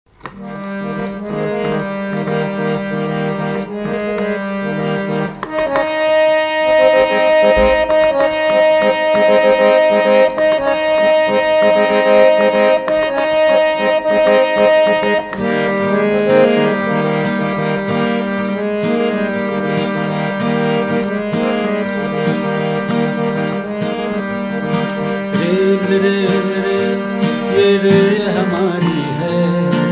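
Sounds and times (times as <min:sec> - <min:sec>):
instrumental music with steady beat: 0:00.1 - 0:29.9.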